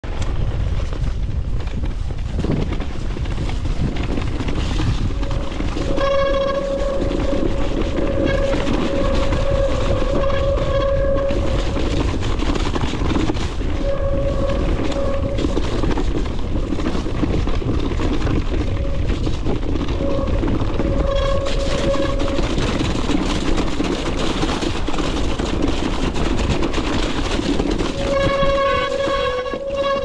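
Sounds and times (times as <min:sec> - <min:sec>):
high whine of bike drivetrain: 0:00.0 - 0:30.0
tyres rolling over rough ground: 0:00.0 - 0:30.0
wind rumble on camera: 0:00.0 - 0:30.0.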